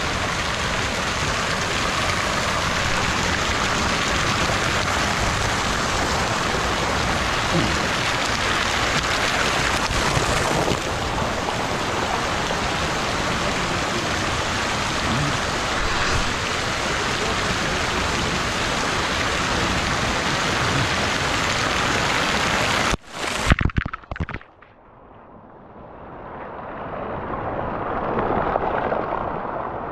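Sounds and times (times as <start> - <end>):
water jet splashing down: 0.0 - 24.4
water rushing and lapping: 0.0 - 24.6, 26.1 - 29.9.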